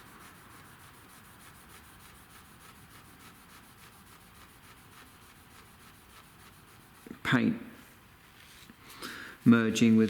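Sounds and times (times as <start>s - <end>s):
cloth rubbing on car paint: 0.0s - 7.2s, 7.8s - 10.0s.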